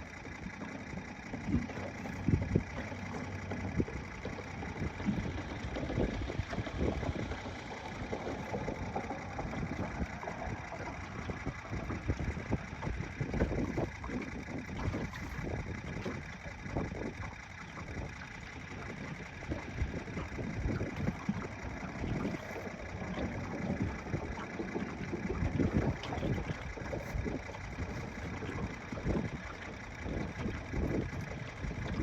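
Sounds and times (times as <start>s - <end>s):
wind buffeting microphone: 1.4s - 32.0s.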